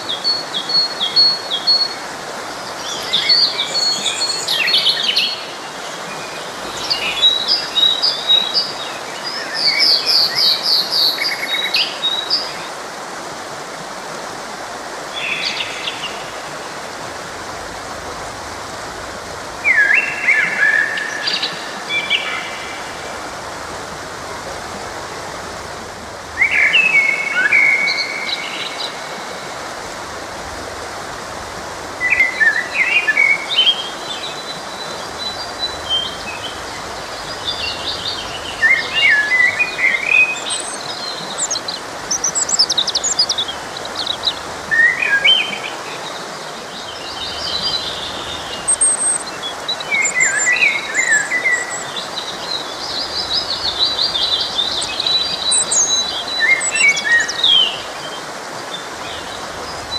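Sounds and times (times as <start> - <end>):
songbirds singing and chirping: 0.0 - 12.8, 17.6 - 29.6, 31.8 - 59.9
flowing stream water: 0.0 - 59.9.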